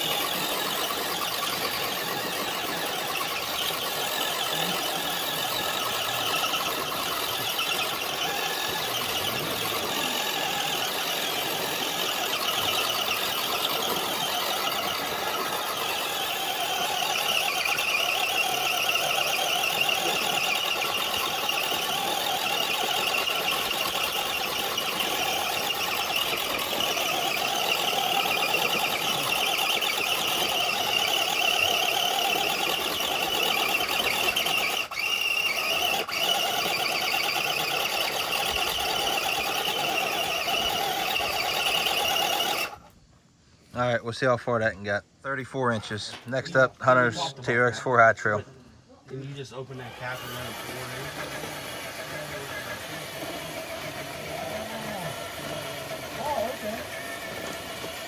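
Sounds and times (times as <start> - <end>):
rc truck motor whining: 0.0 - 43.0, 49.4 - 58.0.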